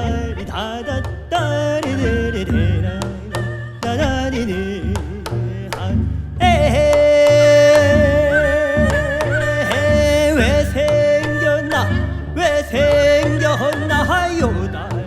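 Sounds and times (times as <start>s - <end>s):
walking bass line: 0.0s - 15.0s.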